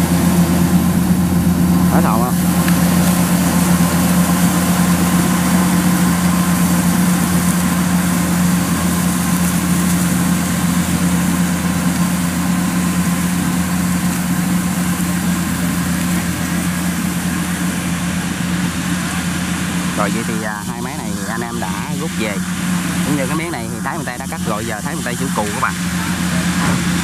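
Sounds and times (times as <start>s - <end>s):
combine harvester diesel engine drone: 0.0s - 27.0s.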